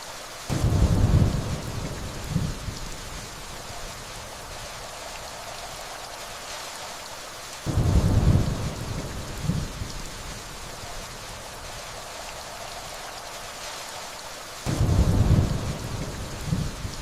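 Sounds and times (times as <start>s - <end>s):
steady rainfall: 0.0s - 17.0s
thunder rumble: 0.5s - 17.0s.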